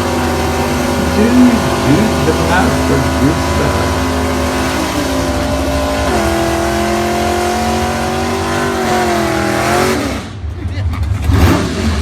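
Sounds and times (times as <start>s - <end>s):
car engine revving: 0.0s - 10.4s, 11.1s - 12.0s.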